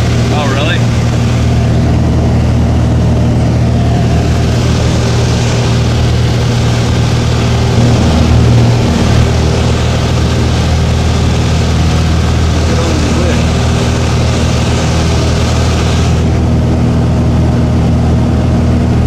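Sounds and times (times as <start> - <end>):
propeller plane engine droning: 0.0 - 19.0
airflow noise: 1.1 - 16.6.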